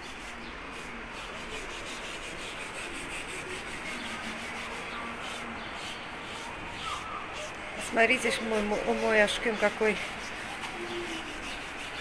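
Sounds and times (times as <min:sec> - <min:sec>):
hand scraper rubbing on ledge: 0:00.0 - 0:12.0.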